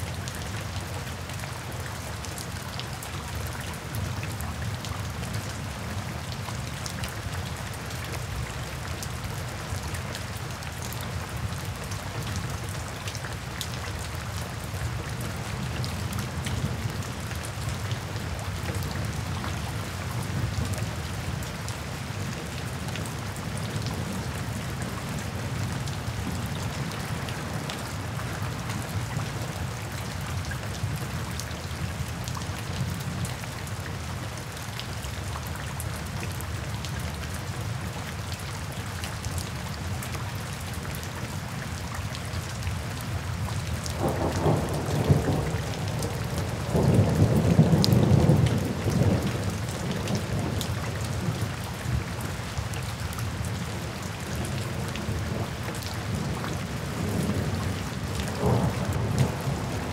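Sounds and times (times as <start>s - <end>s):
raindrops splashing on wet surface: 0.0s - 59.9s
steady rain: 0.0s - 59.9s.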